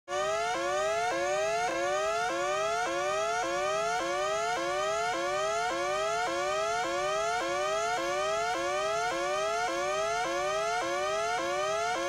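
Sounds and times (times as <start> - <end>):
whooping electronic siren tone: 0.1 - 12.0.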